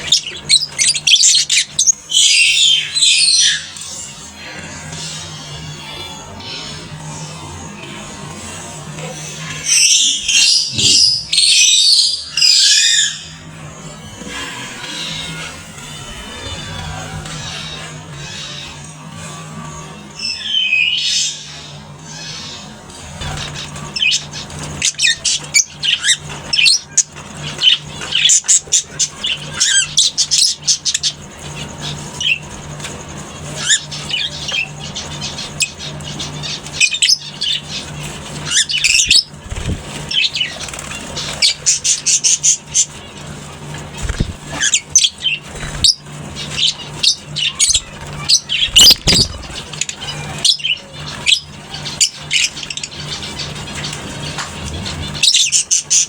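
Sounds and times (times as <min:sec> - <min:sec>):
lovebirds chattering: 0:00.0 - 0:56.0
steady low hum: 0:00.0 - 0:56.0.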